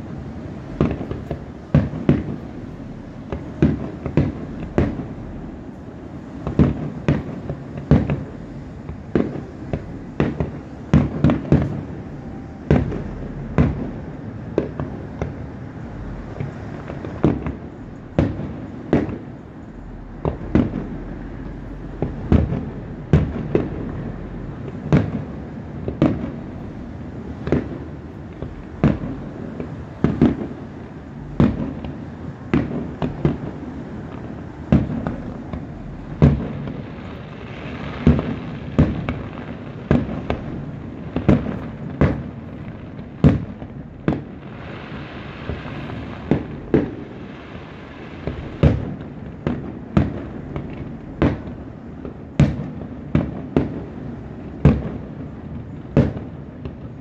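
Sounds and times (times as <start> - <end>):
fireworks booming: 0.0 - 57.0.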